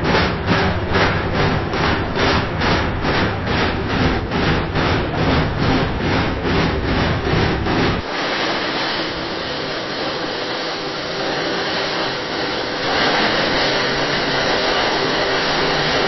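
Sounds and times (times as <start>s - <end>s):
loud hissing machine noise: 0.0s - 16.0s
machinery rhythmic rasping: 0.0s - 16.0s.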